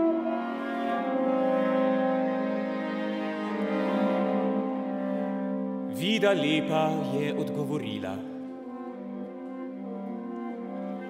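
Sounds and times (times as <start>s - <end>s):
chamber ensemble playing held notes: 0.0s - 11.0s
french horn: 0.0s - 11.0s.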